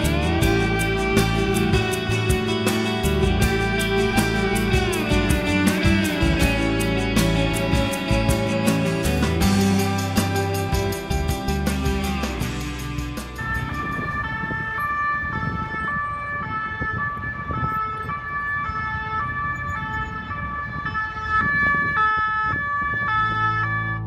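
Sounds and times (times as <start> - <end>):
two-tone siren: 0.0 - 12.1, 12.9 - 24.0
road traffic hum: 0.0 - 24.0.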